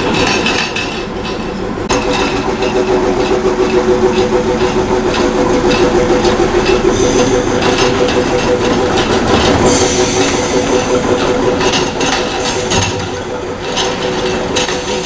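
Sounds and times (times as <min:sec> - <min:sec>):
diesel locomotive engine droning: 0:00.0 - 0:15.0
light clicks and rattles on track: 0:00.0 - 0:15.0.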